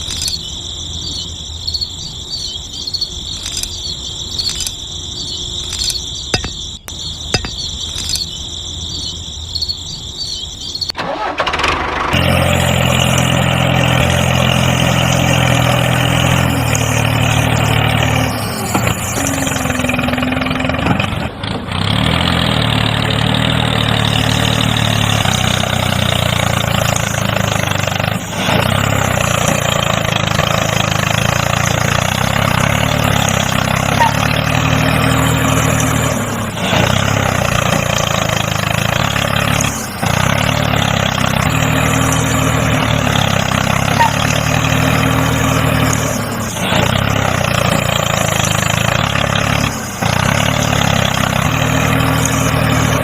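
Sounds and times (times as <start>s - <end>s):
tractor motor humming: 0.0s - 53.0s.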